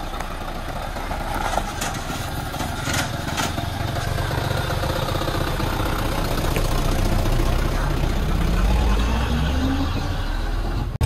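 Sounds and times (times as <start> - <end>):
diesel truck engine driving past: 0.0 - 11.0.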